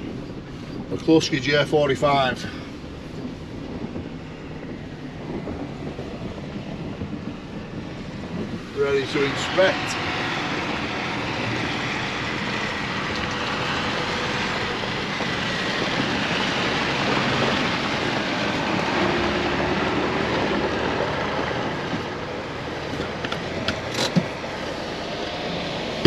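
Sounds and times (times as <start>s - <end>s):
vehicle running over rough track: 3.1s - 26.0s.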